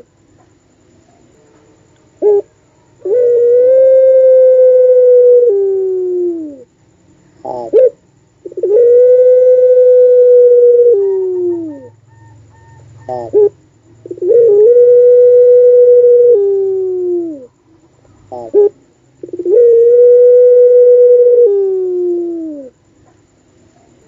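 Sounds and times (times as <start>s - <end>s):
dove cooing: 2.2s - 6.7s, 7.4s - 22.8s.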